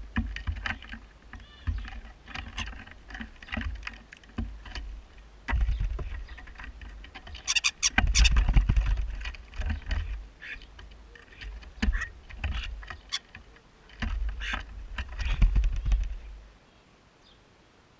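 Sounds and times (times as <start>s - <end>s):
beaks pecking on bird table: 0.0s - 16.4s
birds thumping and scrabbling: 0.0s - 16.5s.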